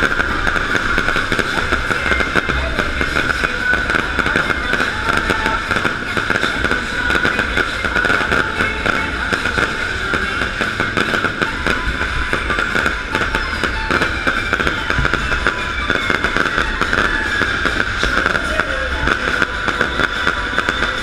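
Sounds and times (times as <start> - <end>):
fireworks crackling pops: 0.0 - 21.0.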